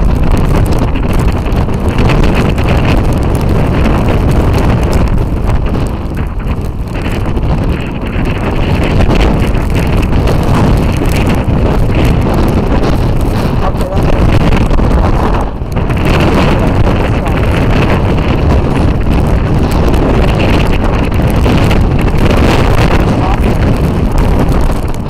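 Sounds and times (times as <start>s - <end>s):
storm wind buffeting microphone: 0.0s - 25.0s.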